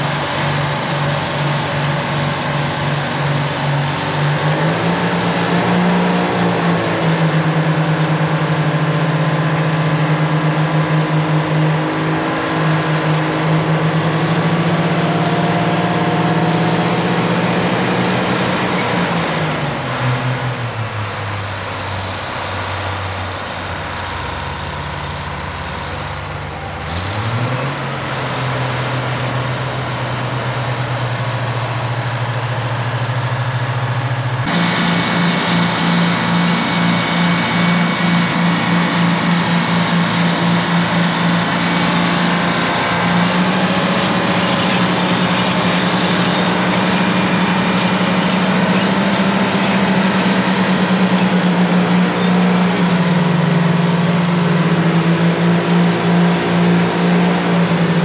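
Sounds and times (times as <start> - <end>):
bulldozer diesel engines revving: 0.0 - 58.0.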